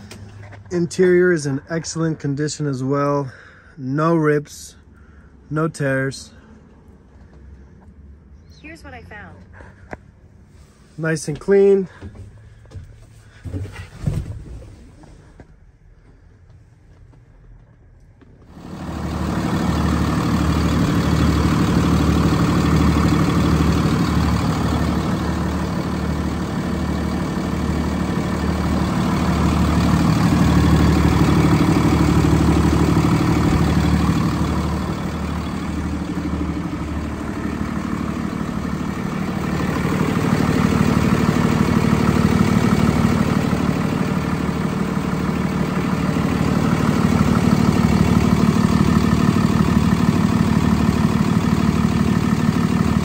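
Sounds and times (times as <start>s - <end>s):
diesel engine idling: 0.0s - 13.8s, 18.5s - 53.0s.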